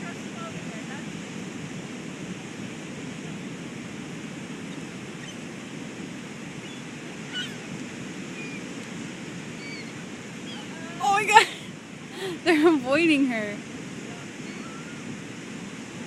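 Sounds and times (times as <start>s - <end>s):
light wind: 0.0s - 16.0s
ocean surf washing on beach: 0.0s - 16.0s.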